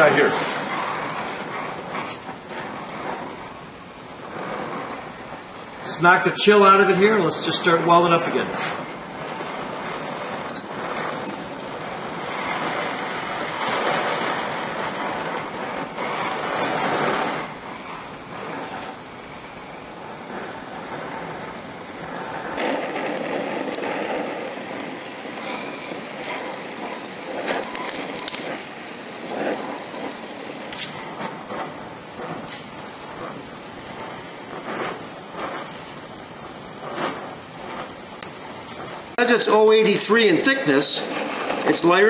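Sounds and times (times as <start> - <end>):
sharp crackling pops: 0.0 - 42.0
welding torch flame hissing: 0.0 - 42.0.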